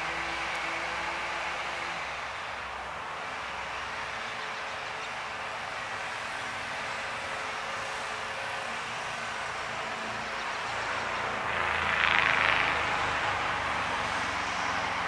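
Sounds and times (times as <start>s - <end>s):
motor drone: 0.0s - 15.0s.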